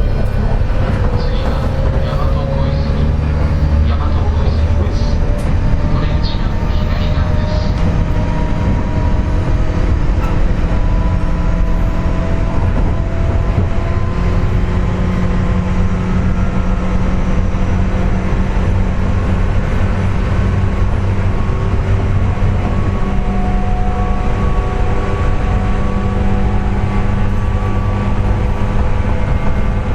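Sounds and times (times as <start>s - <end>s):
electric train rumble: 0.0s - 29.9s.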